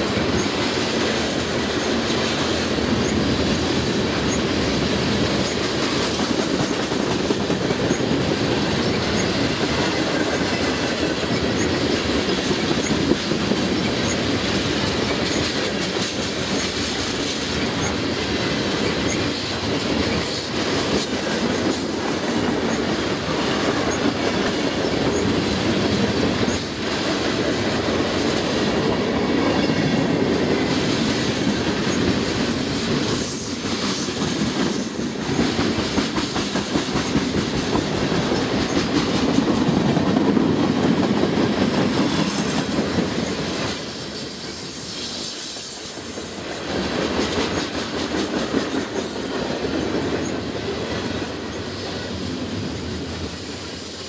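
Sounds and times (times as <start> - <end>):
wheels clacking over rail joints: 0.0 - 52.4
steel wheels rumbling on rail: 0.0 - 54.0.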